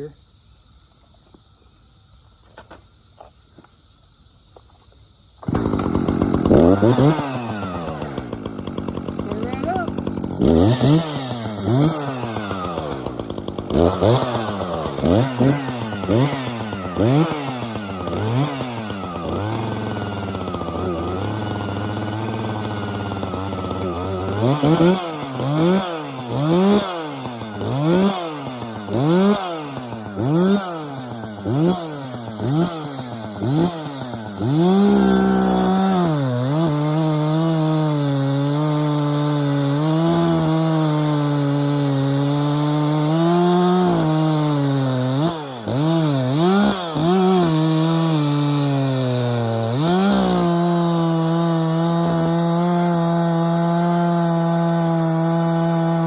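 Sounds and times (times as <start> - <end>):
chainsaw revving and cutting wood: 5.4 - 56.0.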